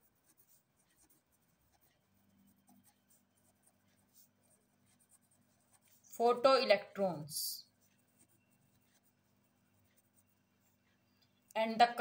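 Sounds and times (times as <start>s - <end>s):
pen scratching on paper: 0.0s - 6.9s, 7.6s - 11.0s
faint low hum: 0.0s - 12.0s.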